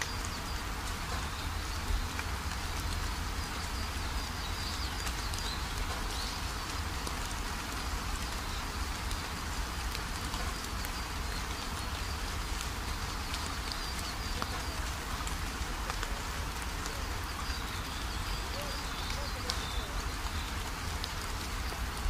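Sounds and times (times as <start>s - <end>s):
rain and wet road hiss: 0.0s - 22.0s
raindrops ticking: 0.0s - 22.0s.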